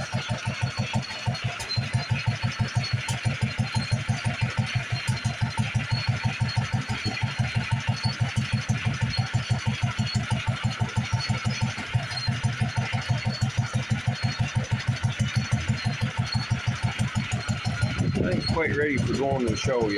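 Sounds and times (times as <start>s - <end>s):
single-cylinder engine running: 0.0s - 19.9s.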